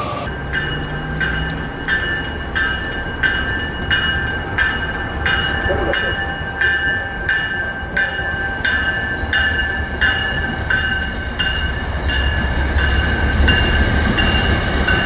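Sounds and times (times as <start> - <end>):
train bell ringing: 0.0 - 15.0
train rumbling: 0.0 - 15.0.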